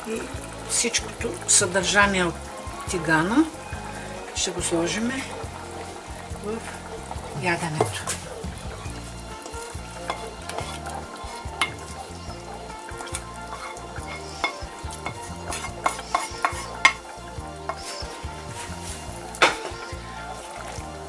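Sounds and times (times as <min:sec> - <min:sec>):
soft sizzle: 0:00.0 - 0:21.0
stirring in a pot: 0:00.0 - 0:21.0
wooden spoon scraping a pan: 0:02.4 - 0:21.0.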